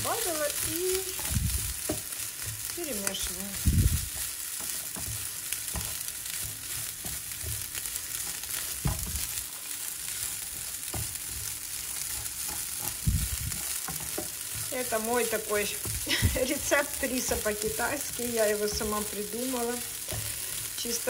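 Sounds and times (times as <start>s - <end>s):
rice sizzling in a frying pan: 0.0s - 21.0s.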